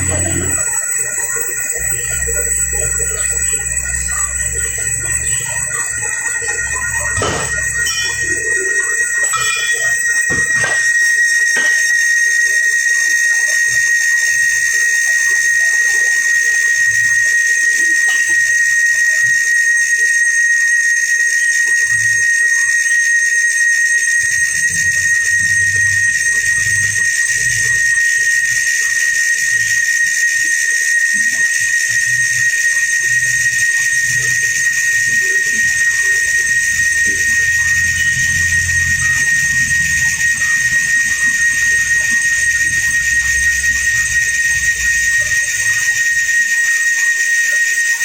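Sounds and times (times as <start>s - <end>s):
machine high-pitched whine: 0.0s - 48.0s.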